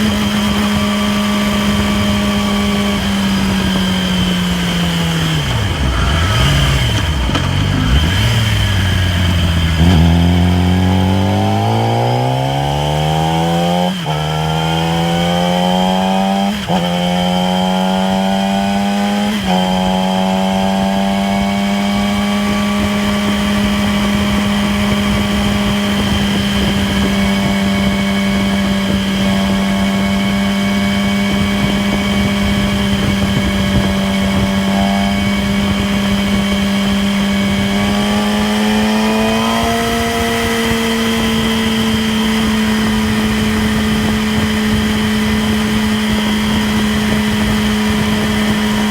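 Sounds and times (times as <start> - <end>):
high whirring whine: 0.0 - 48.9
motorcycle engine revving: 0.0 - 48.9.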